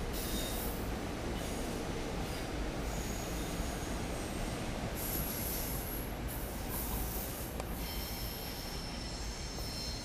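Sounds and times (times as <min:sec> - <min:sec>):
low rumble of passing train: 0:00.0 - 0:10.0
train wheels squealing on rails: 0:00.0 - 0:10.0.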